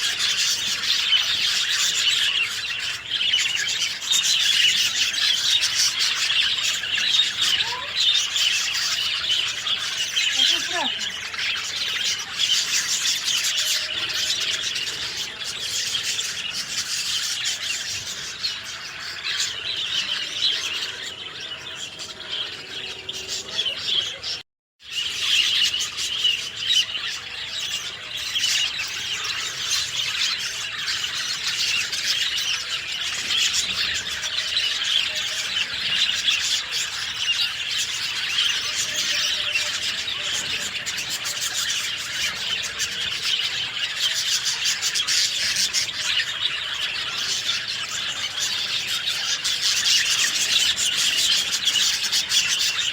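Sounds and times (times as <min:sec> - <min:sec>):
songbirds chirping and twittering: 0:00.0 - 0:52.9.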